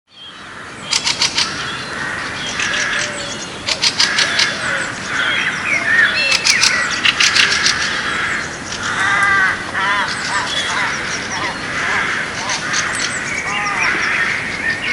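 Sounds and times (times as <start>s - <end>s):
birds chirping and calling: 0.1s - 14.9s
harsh bird call: 0.1s - 14.9s.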